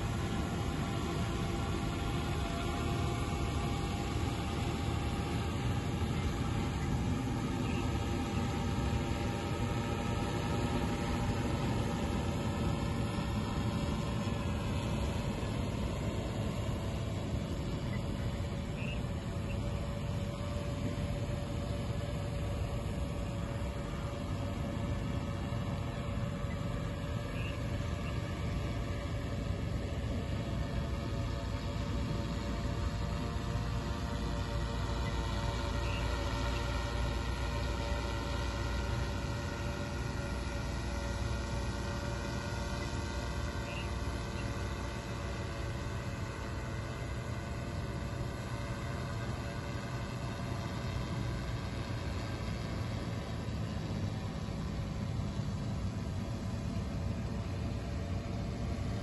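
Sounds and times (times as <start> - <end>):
drone propellers humming: 0.0 - 59.0.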